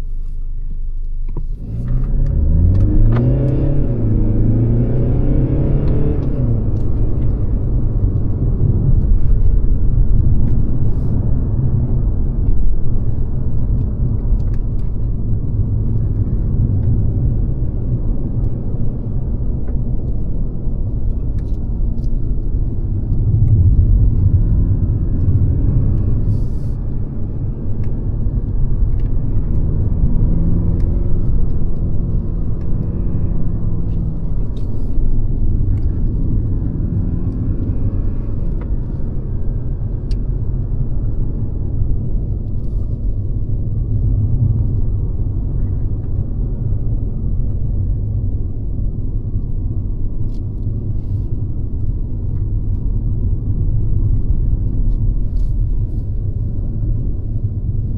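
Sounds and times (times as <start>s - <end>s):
car engine rumble: 0.0s - 57.9s
road noise: 0.0s - 57.9s.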